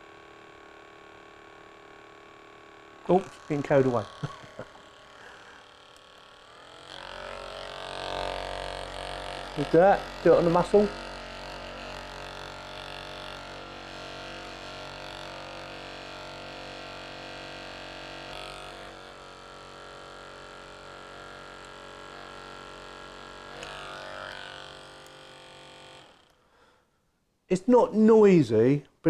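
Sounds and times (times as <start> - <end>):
massage gun motor buzzing: 0.0 - 26.9.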